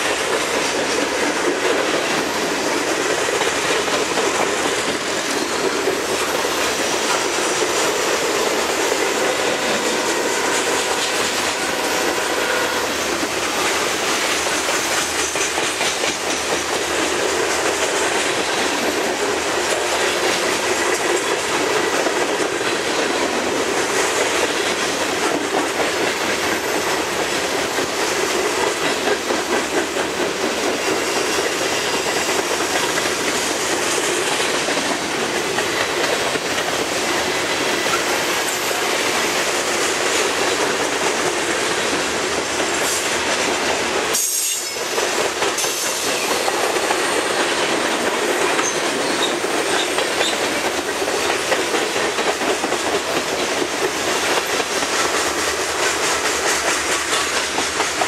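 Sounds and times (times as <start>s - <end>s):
clickety-clack over rail joints: 0.0s - 58.0s
train wheels rolling on rails: 0.0s - 58.0s.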